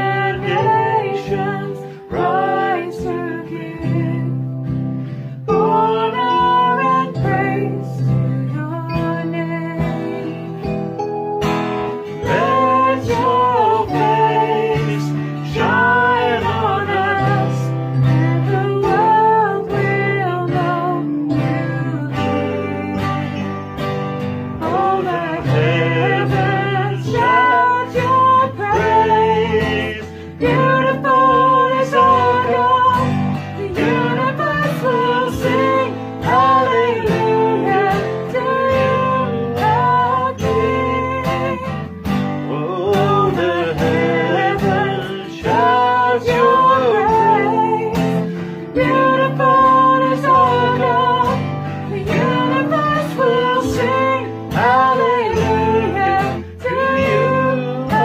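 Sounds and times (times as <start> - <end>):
woman singing: 0.0 - 4.8, 5.4 - 10.8, 12.0 - 23.9, 24.6 - 58.0
keyboard: 0.0 - 58.0
strummed acoustic guitar: 0.0 - 58.0.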